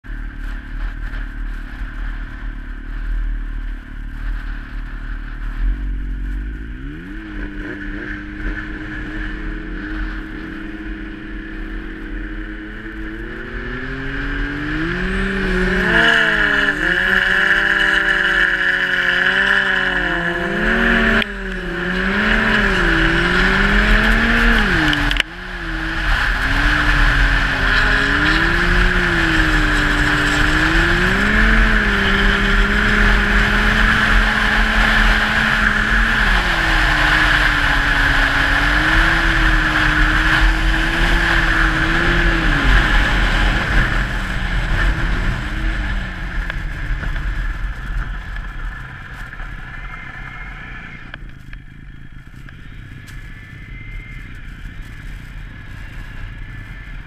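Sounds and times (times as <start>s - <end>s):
wind and track noise: 0.0s - 57.0s
snowmobile engine revving: 0.4s - 51.1s.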